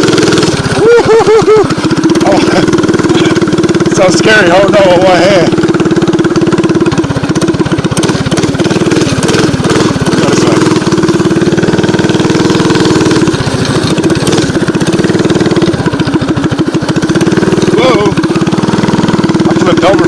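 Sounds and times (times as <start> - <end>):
mini bike engine running: 0.0 - 20.0.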